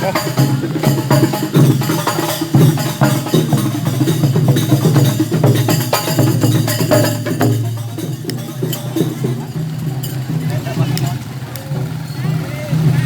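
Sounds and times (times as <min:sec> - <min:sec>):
percussion-heavy parade music: 0:00.0 - 0:13.0.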